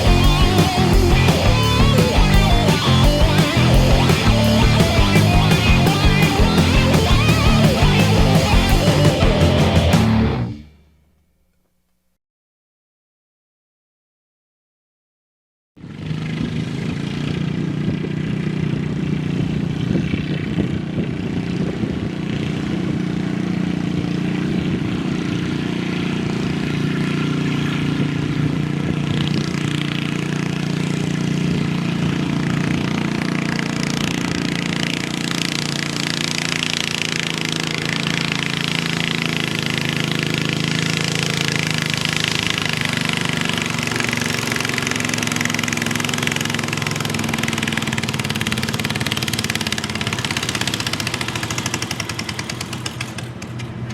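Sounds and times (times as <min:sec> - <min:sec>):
tractor engine running: 0:00.0 - 0:10.6, 0:16.4 - 0:53.9.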